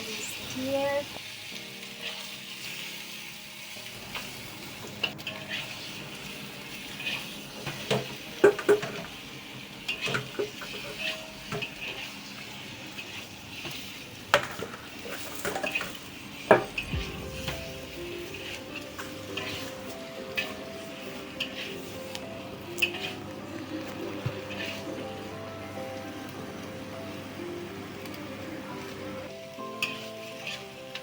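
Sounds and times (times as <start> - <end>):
chicken sizzling in a pot: 0.0 - 31.0.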